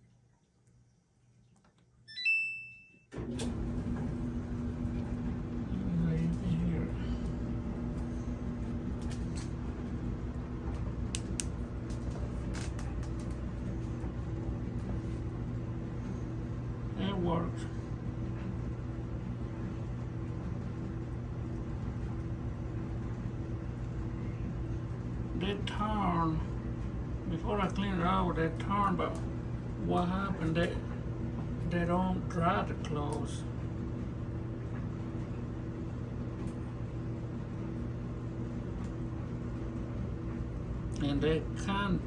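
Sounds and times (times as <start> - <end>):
clothes dryer humming: 2.1 - 42.0.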